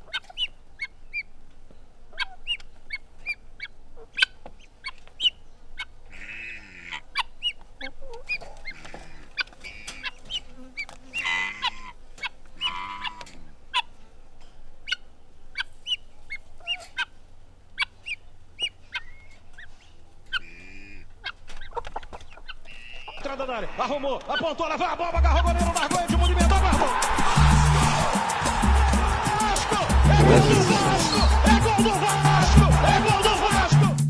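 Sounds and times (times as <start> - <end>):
rasping hen calls: 0.0 - 33.7
chicks peeping and chirping: 0.0 - 33.8.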